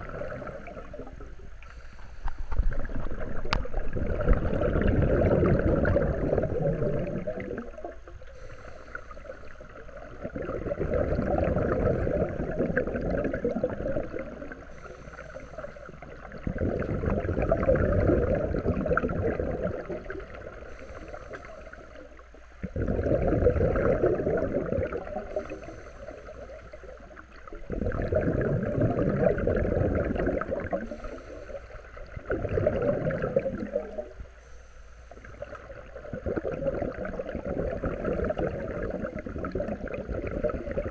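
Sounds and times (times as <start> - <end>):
exhaled bubbles rushing: 0.0 - 1.5, 2.3 - 8.4, 9.2 - 14.8, 15.8 - 20.9, 21.7 - 34.3, 35.2 - 40.9
scuba breathing underwater: 0.0 - 40.9.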